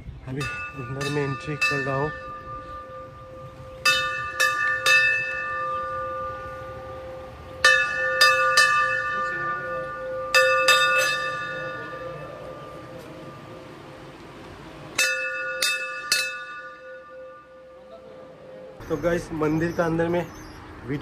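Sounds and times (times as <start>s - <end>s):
brass bell ringing: 0.3s - 14.1s, 14.9s - 19.0s.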